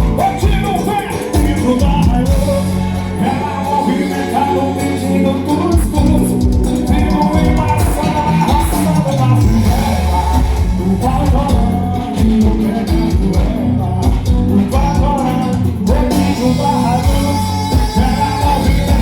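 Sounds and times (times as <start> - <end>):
live band music through sound system: 0.0 - 19.0
person singing: 0.0 - 19.0
strong bass beat: 0.0 - 19.0.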